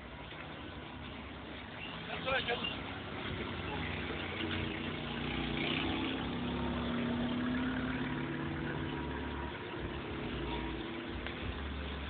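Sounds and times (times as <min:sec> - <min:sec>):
cars passing slowly: 0:00.0 - 0:12.0.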